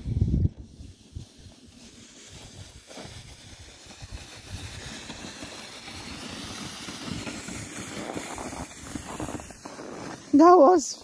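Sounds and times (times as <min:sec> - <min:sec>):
sled sliding down snowy hill: 0:00.0 - 0:11.0.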